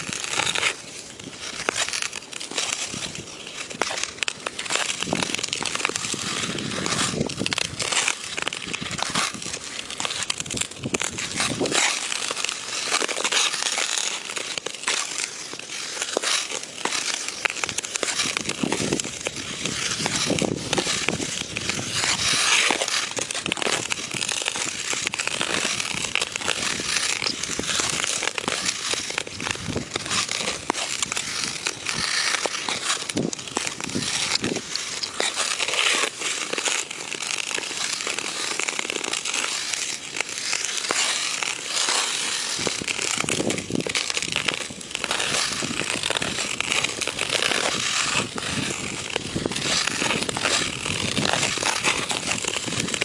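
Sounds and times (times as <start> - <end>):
skate blades scraping on ice: 0.0 - 53.0.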